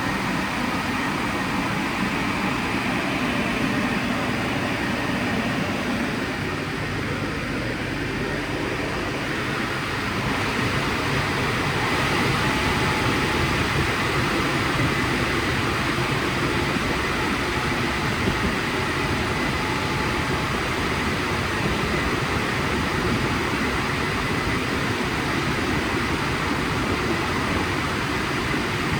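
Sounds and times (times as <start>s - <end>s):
car wash machinery rushing: 0.0s - 28.9s
faint high whine: 0.0s - 28.9s.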